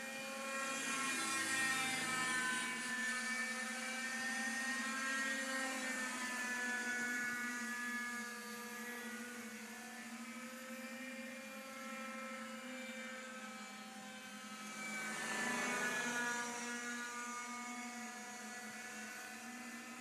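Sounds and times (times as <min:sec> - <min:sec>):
model helicopters whining: 0:00.0 - 0:20.0.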